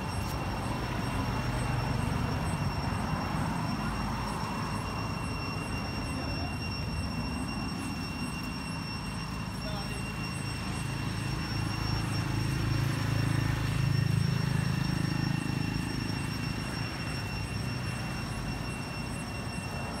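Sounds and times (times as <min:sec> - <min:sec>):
distant motor rumble: 0:00.0 - 0:19.9
steady high-pitched tones: 0:00.0 - 0:20.0.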